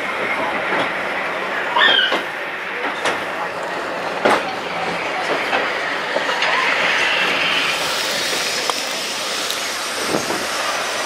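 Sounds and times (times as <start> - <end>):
train carriages rushing past: 0.0 - 11.0.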